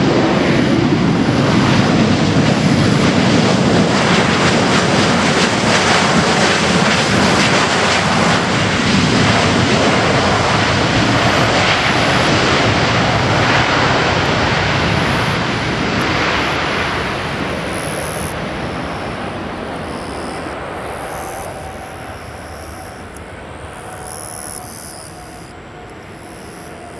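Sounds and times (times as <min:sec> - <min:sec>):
jet engines at high power: 0:00.0 - 0:26.9.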